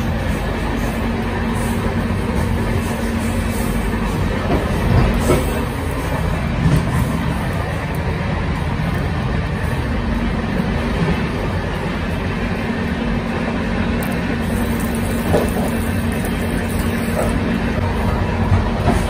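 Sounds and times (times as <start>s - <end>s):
train coach rumble: 0.0s - 19.0s.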